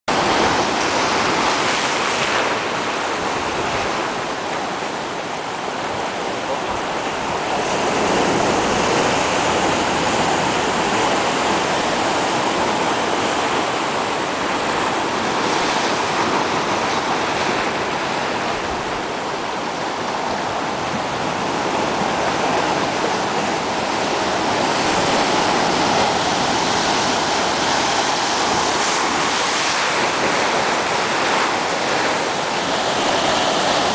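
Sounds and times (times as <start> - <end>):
ocean surf breaking: 0.1 - 33.9.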